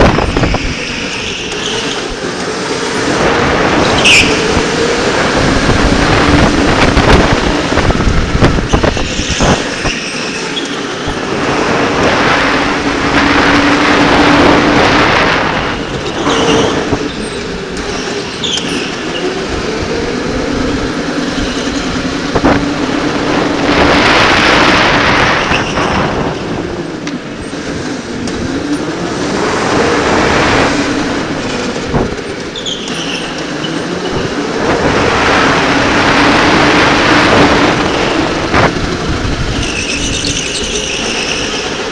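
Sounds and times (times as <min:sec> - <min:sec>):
wind noise on microphone: 0:00.0 - 0:32.6, 0:33.2 - 0:41.9.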